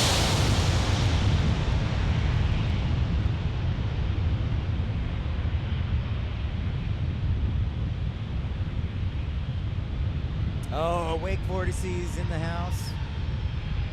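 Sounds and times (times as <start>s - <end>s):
jet airliner engine roar: 0.0s - 13.9s.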